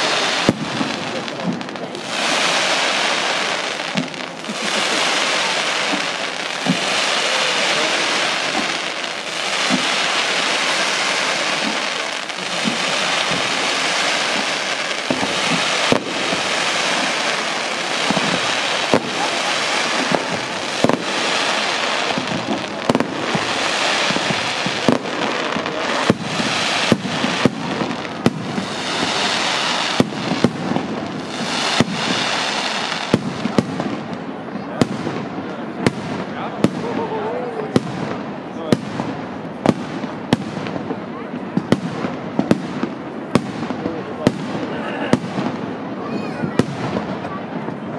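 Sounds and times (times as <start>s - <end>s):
fireworks crackling: 0.0s - 47.9s.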